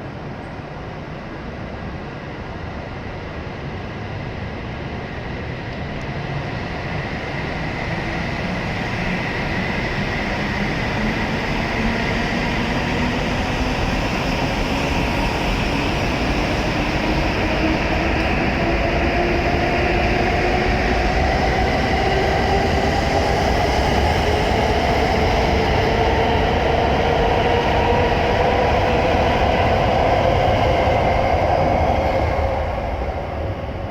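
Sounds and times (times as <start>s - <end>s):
low train rumble: 0.0s - 33.9s.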